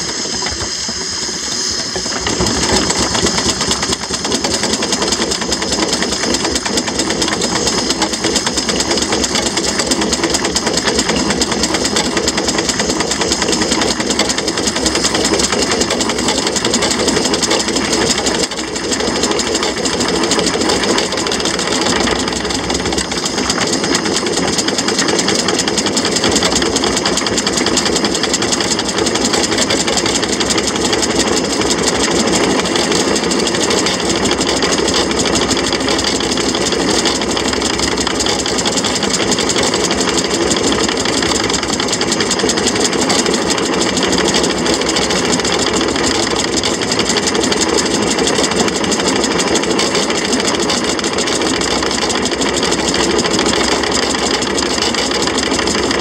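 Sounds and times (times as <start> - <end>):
steam traction engine beat: 0.0 - 56.0.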